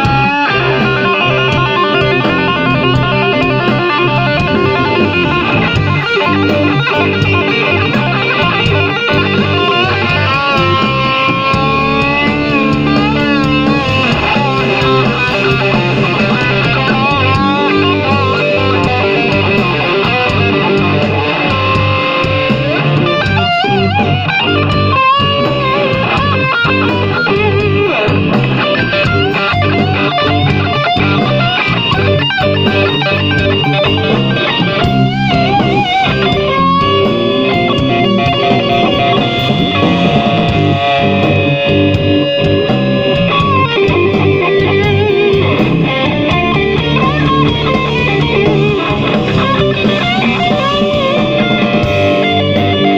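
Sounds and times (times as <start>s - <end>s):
electric guitar bent notes: 0.0s - 52.9s
live blues band playing: 0.0s - 52.9s.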